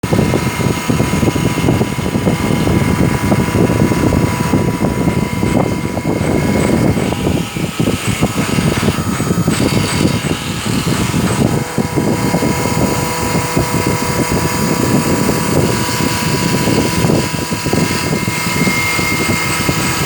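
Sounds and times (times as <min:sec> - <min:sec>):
machine fluttering rumble and whine: 0:00.0 - 0:20.0.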